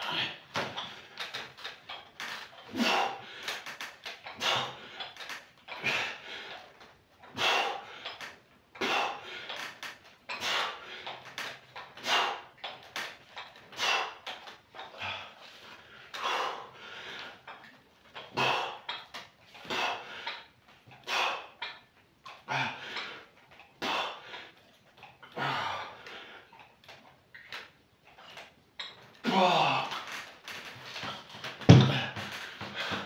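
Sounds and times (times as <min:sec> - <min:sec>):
man breathing hard: 0:00.0 - 0:12.6, 0:13.7 - 0:21.8, 0:22.4 - 0:26.7, 0:31.0 - 0:33.0.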